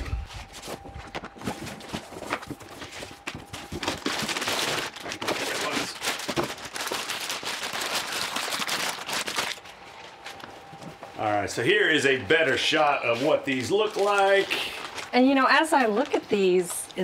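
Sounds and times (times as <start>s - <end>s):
plastic bags crinkling: 0.4s - 10.2s, 12.4s - 17.0s.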